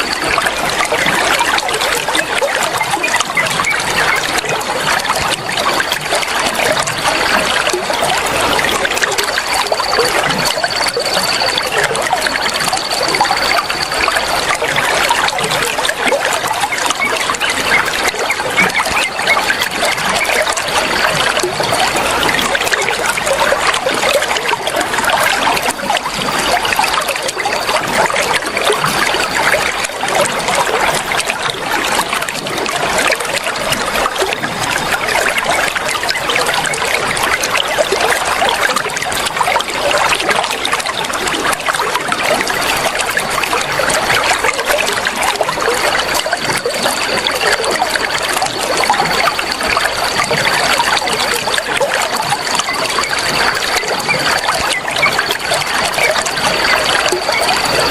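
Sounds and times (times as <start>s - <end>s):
water trickling and bubbling: 0.0s - 57.9s.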